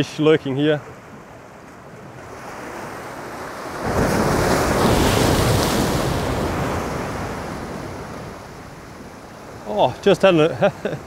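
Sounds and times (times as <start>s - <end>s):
waves washing against shore: 0.0s - 11.0s.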